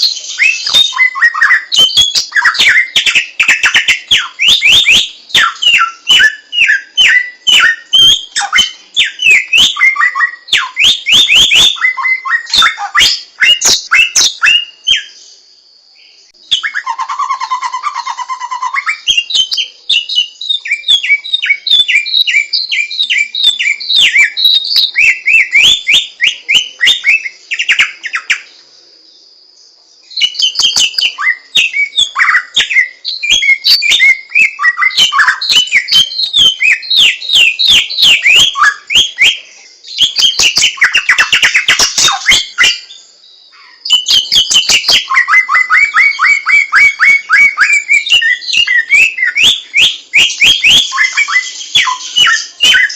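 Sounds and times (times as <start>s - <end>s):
songbird whistling descending notes: 0.0s - 15.4s, 16.4s - 28.5s, 30.0s - 52.9s.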